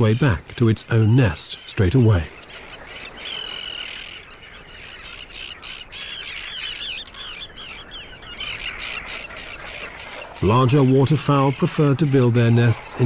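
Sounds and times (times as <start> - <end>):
terns screaming calls: 0.0 - 13.0.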